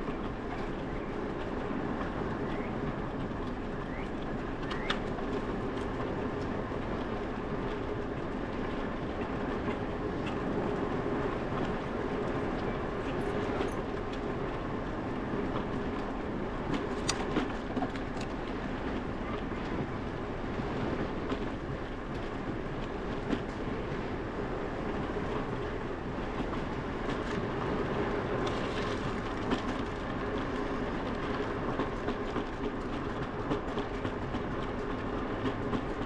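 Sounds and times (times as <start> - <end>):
wind: 0.0 - 36.0.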